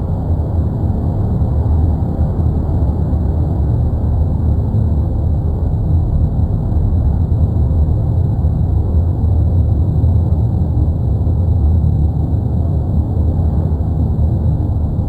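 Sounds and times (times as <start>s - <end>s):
volcano deep rumble: 0.4s - 15.0s.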